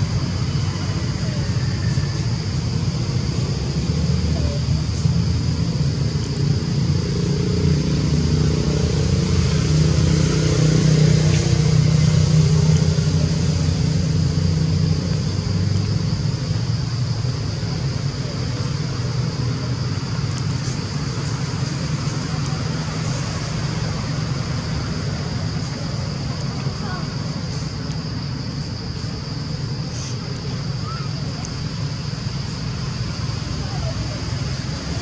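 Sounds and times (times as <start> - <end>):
high-pitched whine: 0.0 - 35.0
vehicle engine rumble: 0.0 - 35.0.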